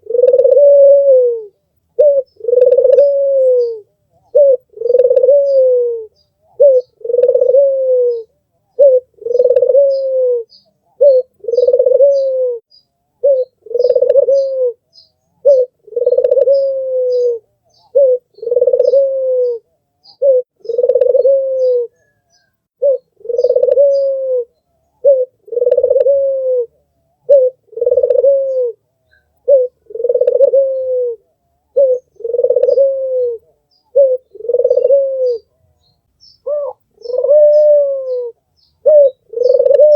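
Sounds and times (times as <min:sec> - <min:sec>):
dove cooing: 0:00.0 - 0:12.6, 0:13.2 - 0:39.9
small birds chirping: 0:01.4 - 0:26.2, 0:26.8 - 0:39.9.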